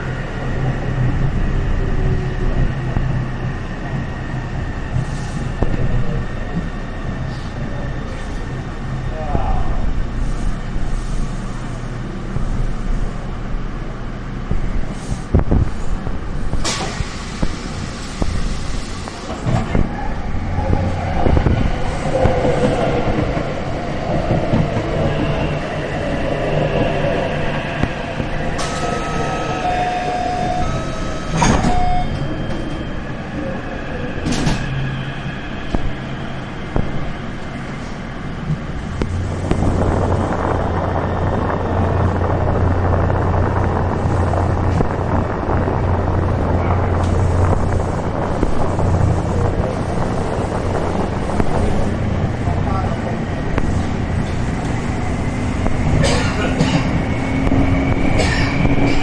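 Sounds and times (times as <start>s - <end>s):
train running rumble: 0.0s - 59.0s.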